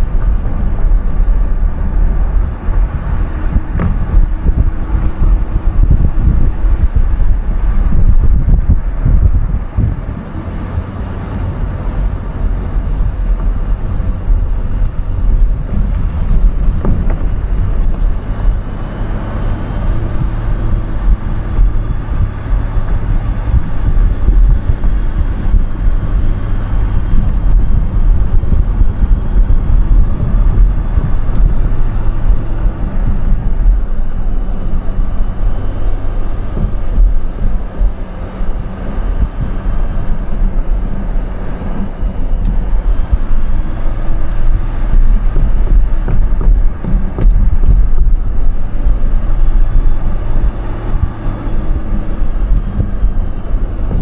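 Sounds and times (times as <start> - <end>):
car engine and road noise: 0.0 - 54.0
wind rumbling on microphone: 0.0 - 54.0.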